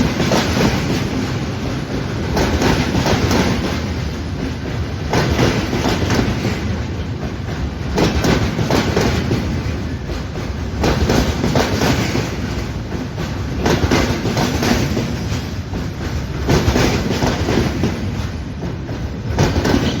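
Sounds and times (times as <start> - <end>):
wagon wheels clattering over rails: 0.0 - 20.0.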